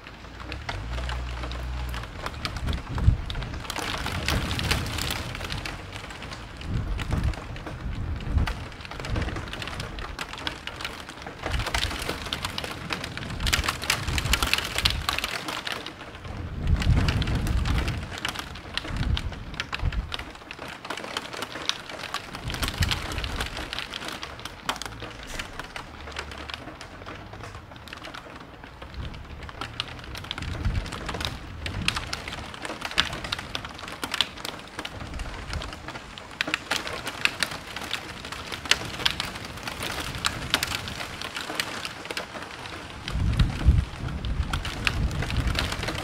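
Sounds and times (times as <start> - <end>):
thunder rumbling: 0.0 - 20.7, 21.3 - 46.0
heavy rain falling: 0.0 - 46.0.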